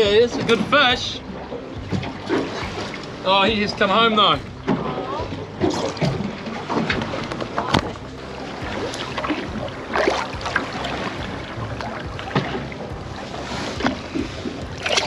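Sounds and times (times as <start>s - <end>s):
water slapping against boat hull: 0.0s - 15.0s
water splashes: 0.0s - 15.0s.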